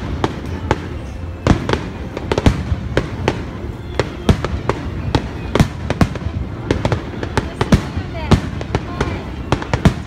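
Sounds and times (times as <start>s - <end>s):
fireworks bursting with sharp bangs: 0.0s - 10.0s.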